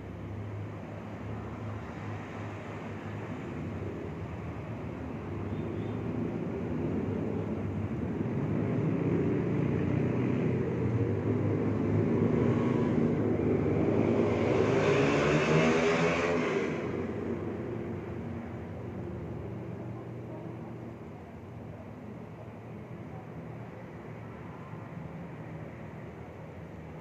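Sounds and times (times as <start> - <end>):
passing vehicle engine rumble: 0.0 - 27.0.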